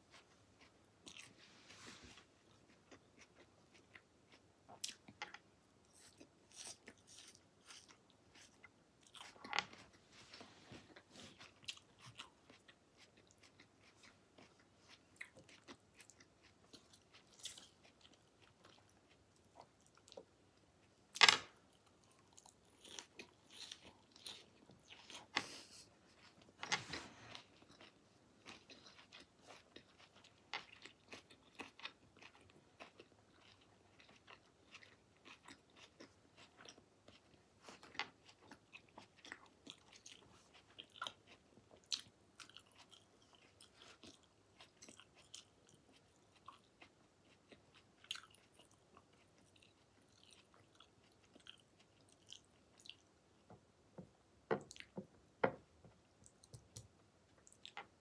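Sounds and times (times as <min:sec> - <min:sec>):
person chewing: 0:00.0 - 0:01.4, 0:02.1 - 0:10.0, 0:10.8 - 0:21.0, 0:21.7 - 0:53.2.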